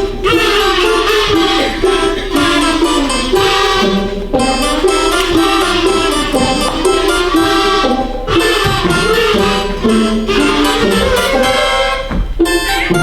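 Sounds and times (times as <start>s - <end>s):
children humming a melody: 0.0s - 13.0s
instrumental accompaniment: 0.0s - 13.0s.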